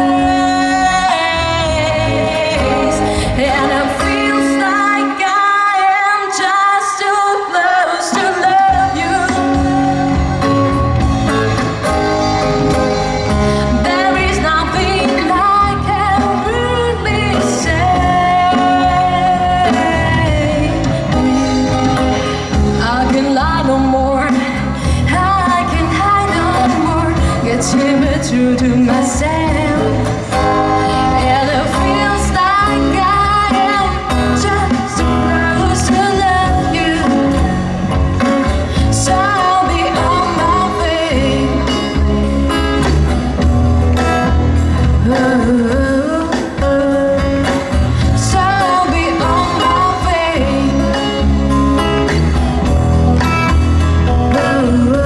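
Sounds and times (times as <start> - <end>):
steady bass: 0.0 - 4.2, 8.7 - 55.0
drums: 0.0 - 55.0
guitar: 0.0 - 55.0
live band playing pop-rock: 0.0 - 55.0
person singing: 0.0 - 55.0.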